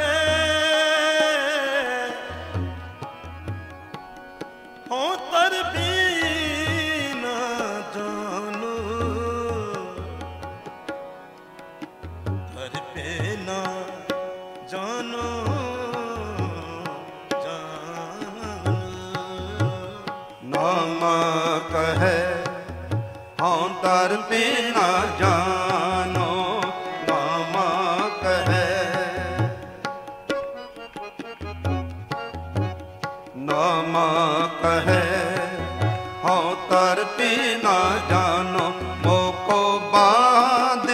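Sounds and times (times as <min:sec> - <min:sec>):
tabla drumming: 0:00.0 - 0:40.9
wavering devotional melody: 0:00.0 - 0:40.9.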